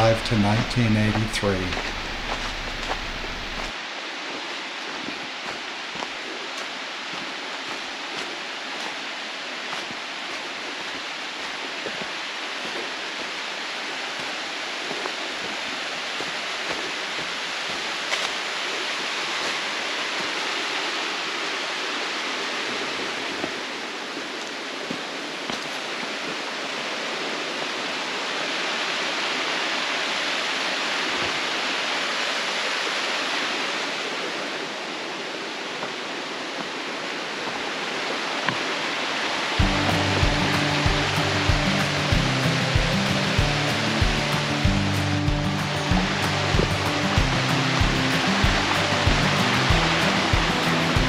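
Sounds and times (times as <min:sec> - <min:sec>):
creek rushing over rocks: 0:00.0 - 0:51.0.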